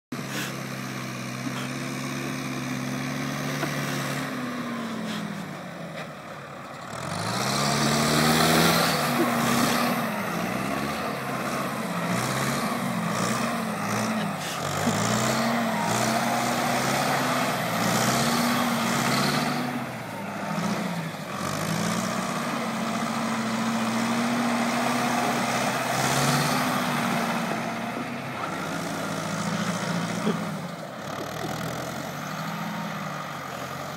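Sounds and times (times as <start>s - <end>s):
tractor diesel engine revving: 0.1s - 33.9s.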